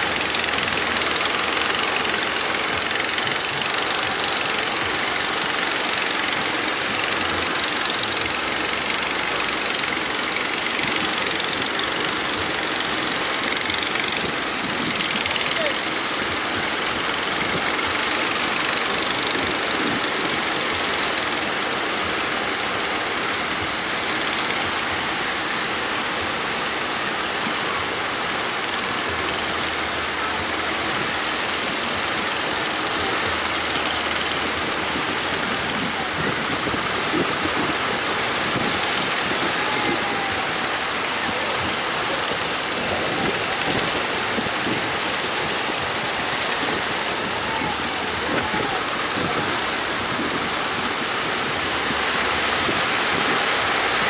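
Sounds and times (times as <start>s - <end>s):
boat engine running: 0.0s - 54.0s
heavy surf breaking: 0.0s - 54.0s.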